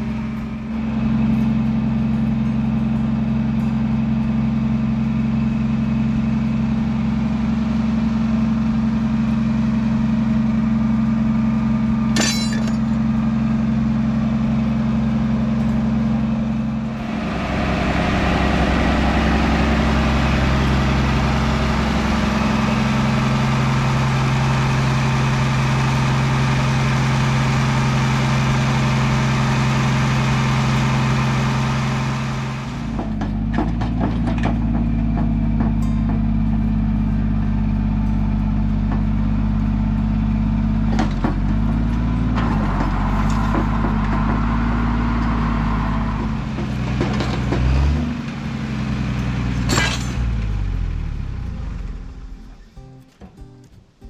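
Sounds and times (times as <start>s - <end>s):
engine idling: 0.0s - 52.8s.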